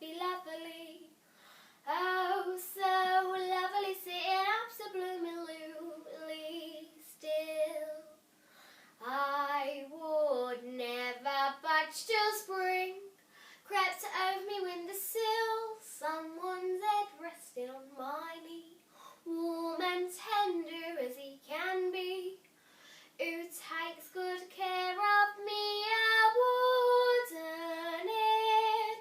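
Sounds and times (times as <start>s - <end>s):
girl singing unaccompanied: 0.0s - 1.2s, 1.8s - 8.3s, 9.0s - 22.5s, 23.1s - 29.0s.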